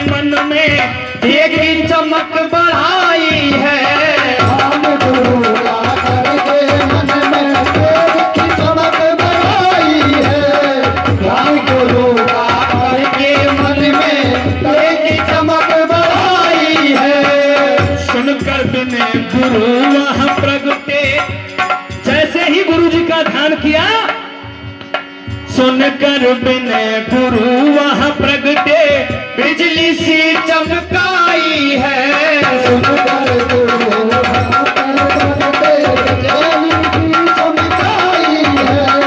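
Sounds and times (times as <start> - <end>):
hand drum beating: 0.0 - 23.4, 30.0 - 39.0.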